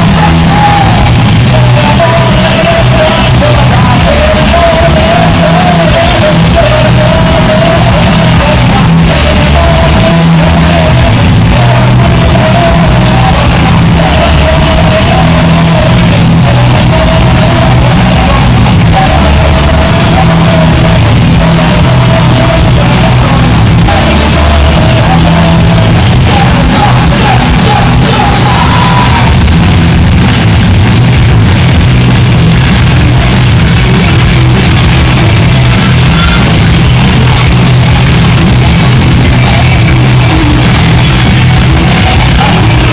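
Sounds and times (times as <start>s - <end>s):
loud punk rock band: 0.0s - 42.9s.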